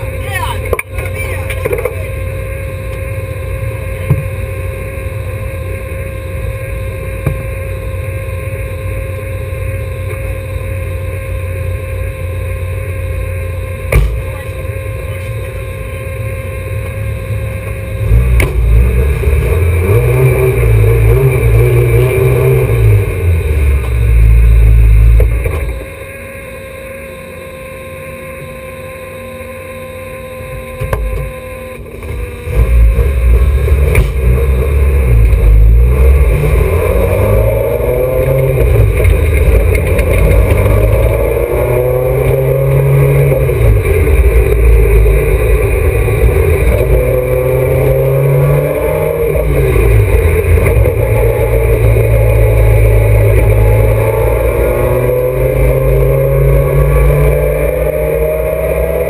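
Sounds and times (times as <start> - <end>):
race car engine idling and revving: 0.0 - 59.0.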